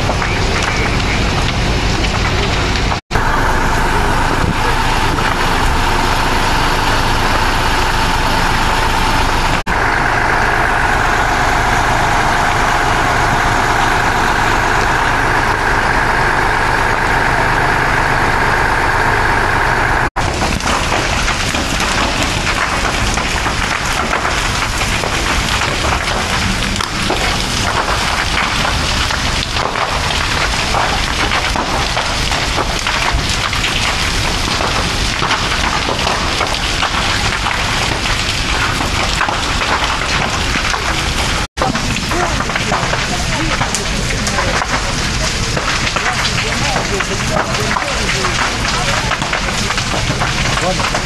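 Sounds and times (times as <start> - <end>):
fire truck engines running: 0.0 - 51.0.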